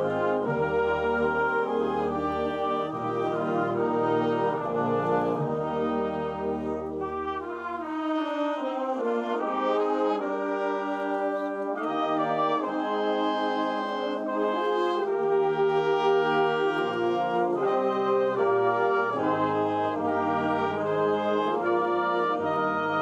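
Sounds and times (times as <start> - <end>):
band playing brass chords: 0.0 - 23.0.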